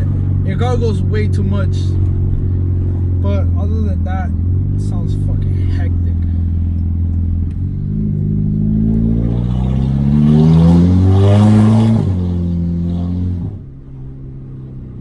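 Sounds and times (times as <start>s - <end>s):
turbocharged car engine revving: 0.0s - 14.8s.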